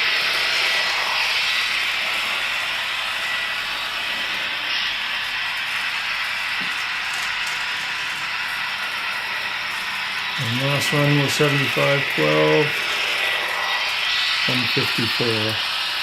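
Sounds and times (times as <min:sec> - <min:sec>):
model train hissing drone: 0:00.0 - 0:16.0.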